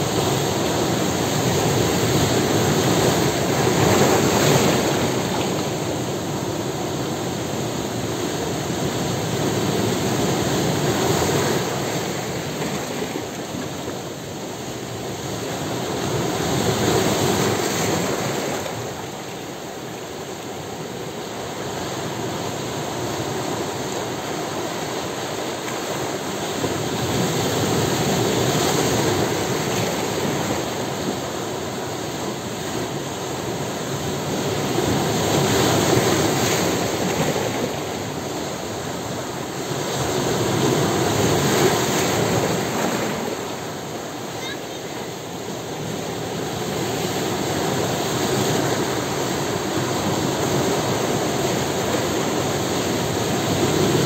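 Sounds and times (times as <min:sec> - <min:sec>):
sea waves breaking on rocks: 0:00.0 - 0:06.6, 0:07.3 - 0:54.0.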